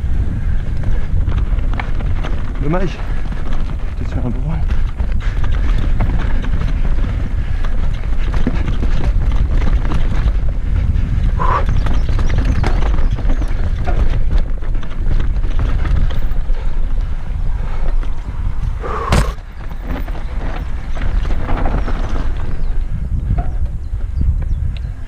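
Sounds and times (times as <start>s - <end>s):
bike rattling over stones: 0.0s - 25.0s
wind rumble on microphone: 0.0s - 25.0s.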